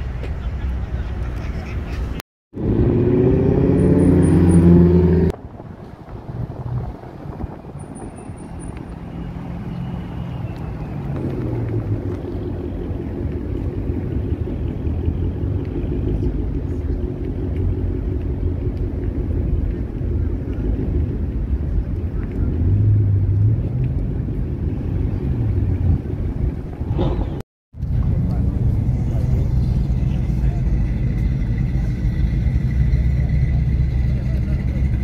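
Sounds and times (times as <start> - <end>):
road rumble: 0.0 - 35.0.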